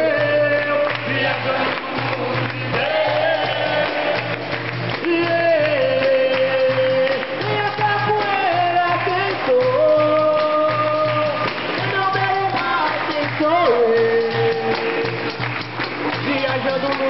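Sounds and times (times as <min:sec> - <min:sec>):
rhythmic percussion: 0:00.0 - 0:17.0.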